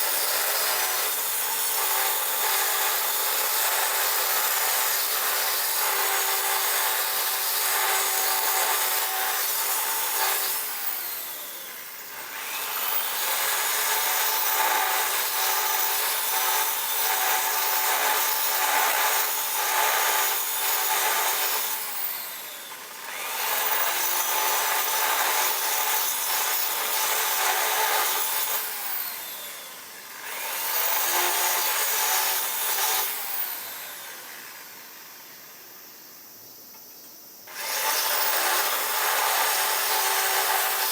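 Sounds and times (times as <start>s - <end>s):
power tool running: 0.0s - 35.3s, 37.5s - 40.9s.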